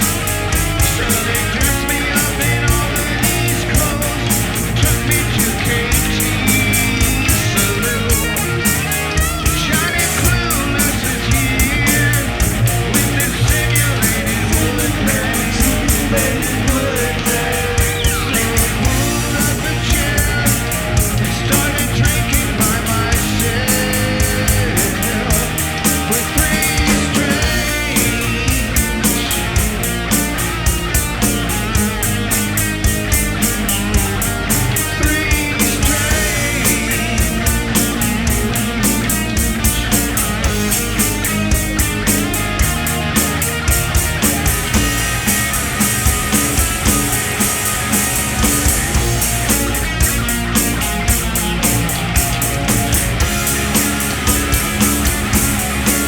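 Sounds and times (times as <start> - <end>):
cymbals struck on fast beat: 0.0 - 56.0
rock band playing live: 0.0 - 56.0.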